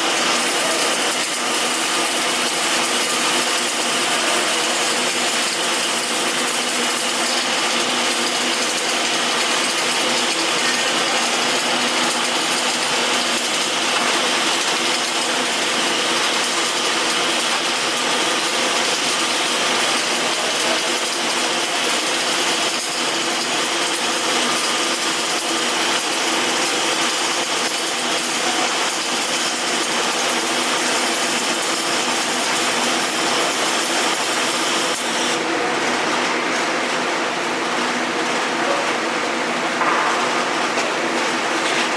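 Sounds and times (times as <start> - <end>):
metalworking noise: 0.0 - 41.9.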